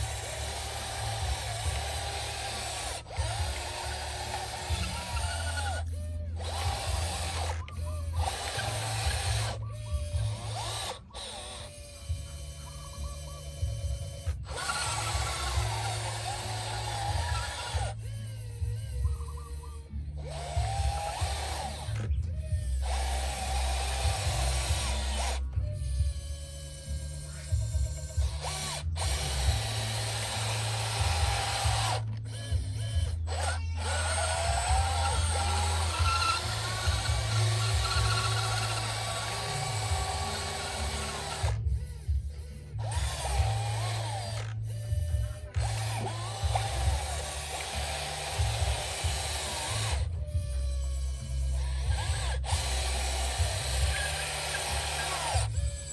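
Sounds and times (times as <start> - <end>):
small electric motors whining: 0.0 - 55.9
steady low hum: 0.0 - 55.9.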